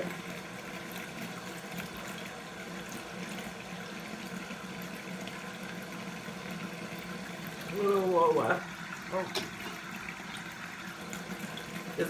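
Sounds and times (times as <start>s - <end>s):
water running from faucet: 0.0s - 12.0s.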